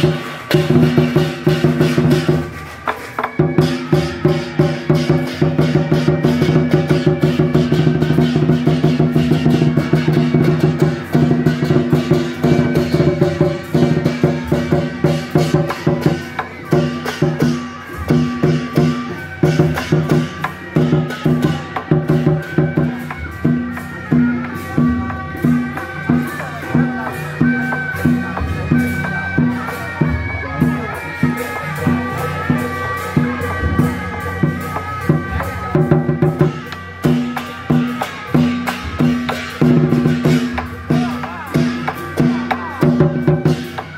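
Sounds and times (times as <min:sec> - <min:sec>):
processional percussion: 0:00.0 - 0:43.9.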